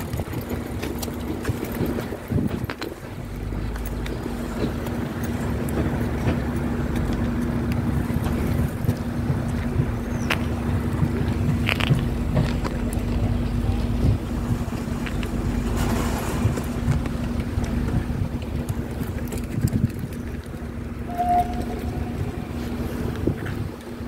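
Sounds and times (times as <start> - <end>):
wind on microphone: 0.0 - 6.5, 7.8 - 24.0
engine hum: 0.0 - 24.0
low rumble: 2.2 - 24.0.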